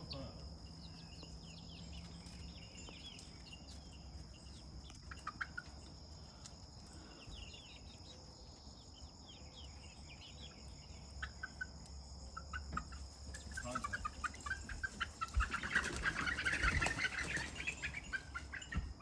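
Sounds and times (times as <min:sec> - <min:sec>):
crickets trilling: 0:00.0 - 0:19.0
quick insect chirps: 0:00.0 - 0:19.0
short insect calls: 0:00.0 - 0:19.0.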